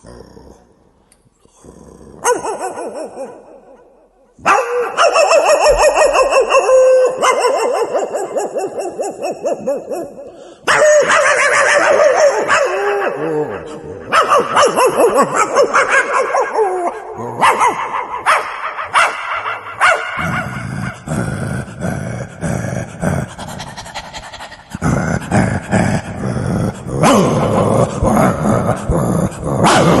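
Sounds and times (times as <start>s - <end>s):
man imitating dog: 1.5s - 3.8s, 4.4s - 30.0s.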